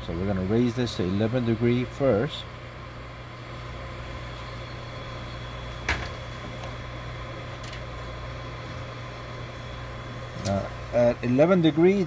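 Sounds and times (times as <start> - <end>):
laser engraver humming: 0.0 - 12.0.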